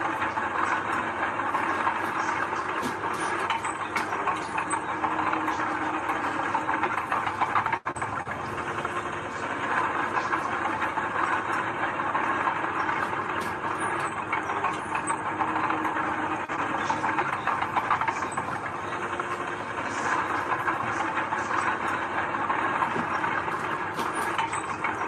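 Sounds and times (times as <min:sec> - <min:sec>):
diesel machinery rattling: 0:00.0 - 0:25.0.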